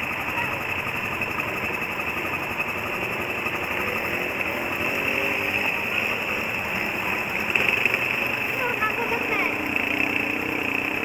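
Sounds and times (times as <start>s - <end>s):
quad engines idling: 0.0s - 11.0s.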